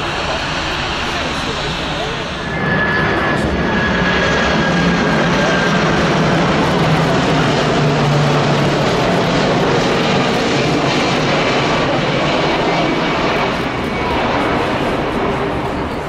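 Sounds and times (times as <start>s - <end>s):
jet airliner passing low: 0.0s - 16.0s.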